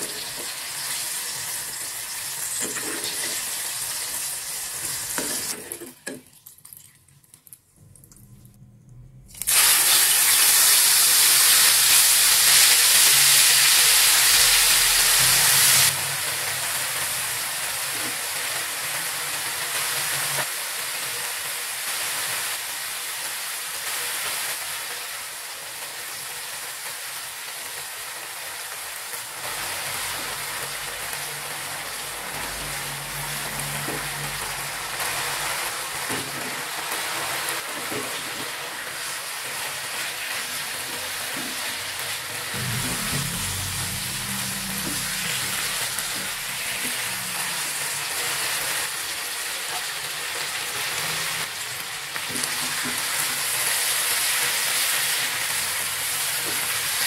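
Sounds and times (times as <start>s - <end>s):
food sizzling in a wok: 0.0s - 6.1s, 9.4s - 57.0s.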